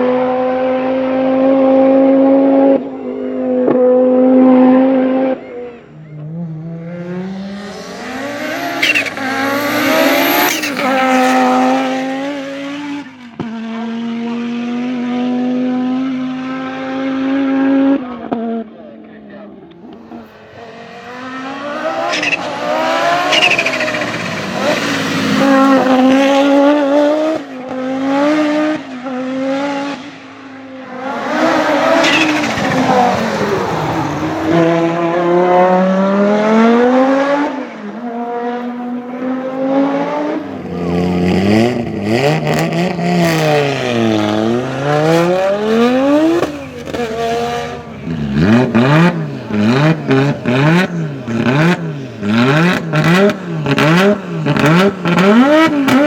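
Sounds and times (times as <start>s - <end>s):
car engine revving hard: 0.0s - 18.7s, 19.8s - 56.0s.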